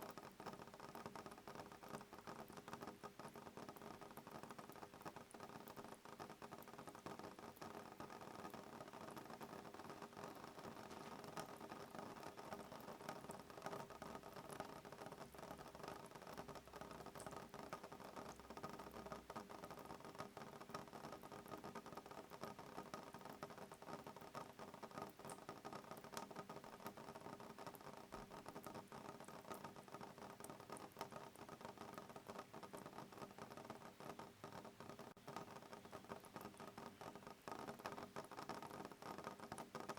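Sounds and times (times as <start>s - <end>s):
rain drops ticking on a window: 0.0s - 39.9s.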